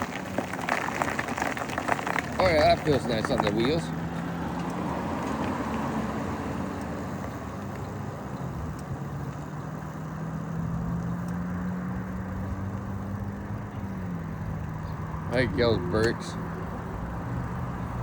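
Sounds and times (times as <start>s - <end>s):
e-bike hum: 0.0s - 18.0s
tyres rolling: 0.0s - 18.0s
wind and road noise: 0.0s - 18.0s.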